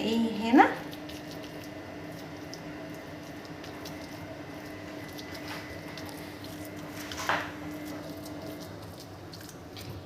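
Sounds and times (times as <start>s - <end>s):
steady low hum: 0.0s - 10.0s
wet squishing of meat filling: 0.8s - 10.0s.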